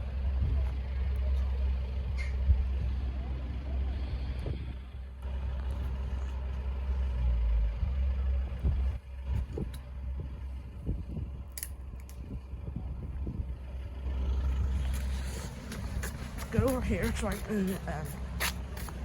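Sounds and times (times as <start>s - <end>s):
road vehicles rumbling: 0.0s - 19.0s.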